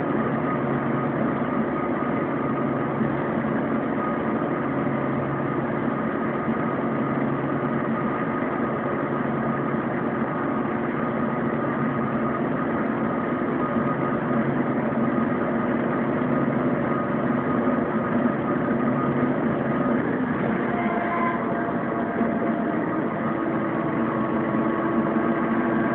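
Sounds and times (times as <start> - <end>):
bus engine drone: 0.0 - 25.9
faint high whine: 0.0 - 25.9.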